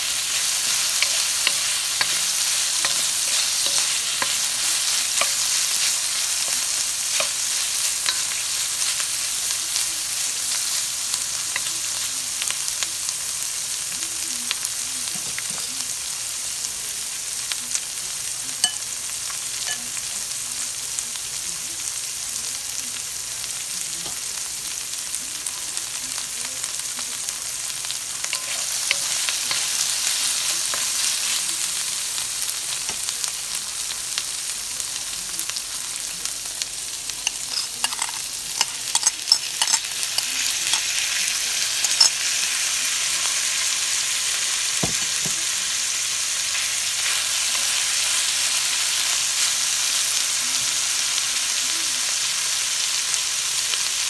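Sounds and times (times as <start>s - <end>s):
asparagus sizzling in hot oil: 0.0s - 54.0s.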